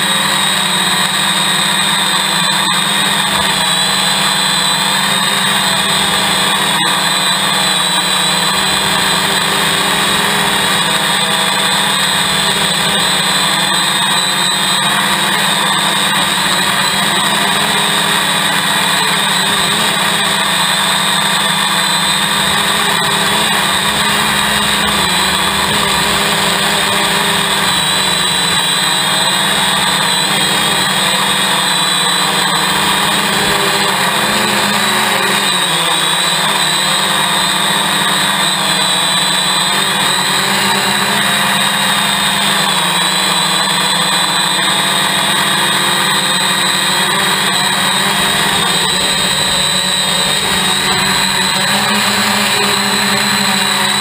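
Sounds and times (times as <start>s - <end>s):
drone propellers whining: 0.0s - 54.0s.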